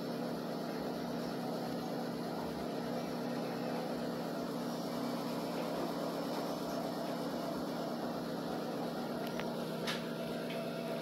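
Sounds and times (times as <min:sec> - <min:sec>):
machine-like hum: 0:00.0 - 0:11.0.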